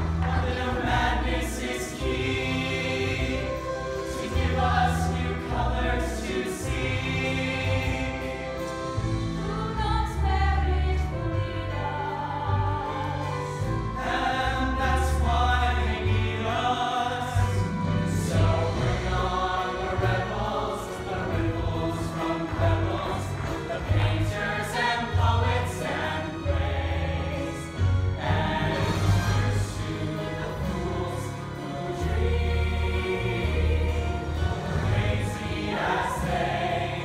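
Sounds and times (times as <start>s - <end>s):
choir singing in harmony: 0.0s - 37.0s.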